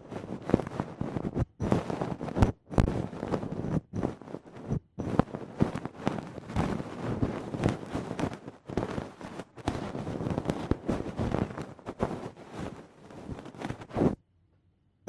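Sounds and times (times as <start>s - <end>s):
ear pick scraping microphone: 0.0s - 14.2s.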